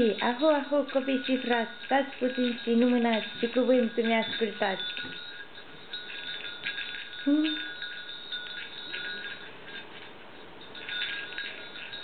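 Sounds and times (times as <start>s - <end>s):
hand bell jingling: 0.0s - 12.0s.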